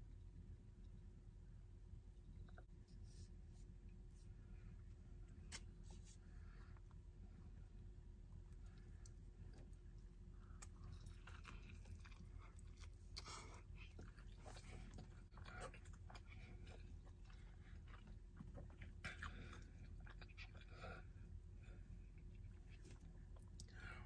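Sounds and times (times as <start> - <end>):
soft wet chewing: 0.7 - 24.0.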